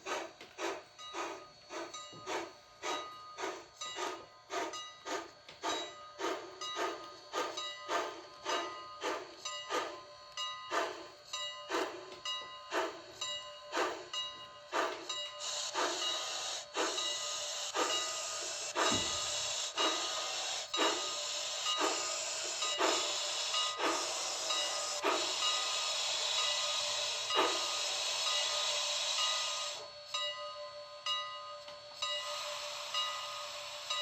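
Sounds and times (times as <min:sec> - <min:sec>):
hiss of escaping steam: 0:00.0 - 0:30.2, 0:31.9 - 0:34.0
steam locomotive exhaust chuffs: 0:00.0 - 0:34.0.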